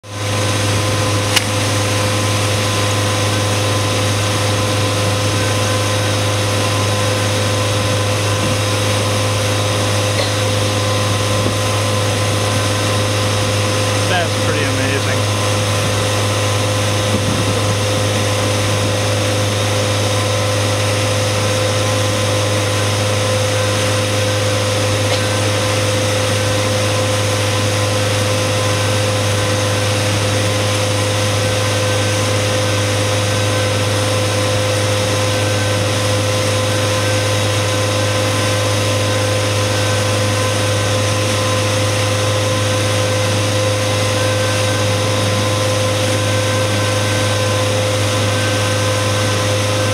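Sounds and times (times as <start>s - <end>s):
boat wake rushing: 0.0s - 49.9s
outboard motor droning: 0.0s - 49.9s.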